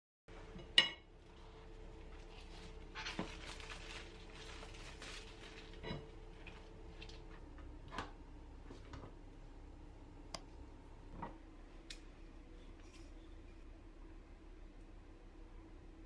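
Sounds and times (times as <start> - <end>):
faint steady hum: 0.3 - 16.0.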